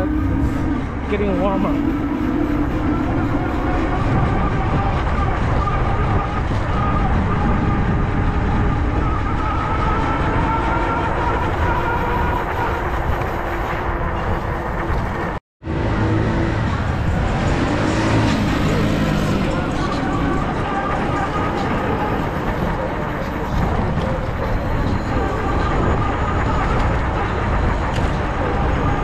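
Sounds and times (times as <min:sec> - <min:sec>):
road noise: 0:00.0 - 0:29.0
wind rush: 0:00.0 - 0:29.0.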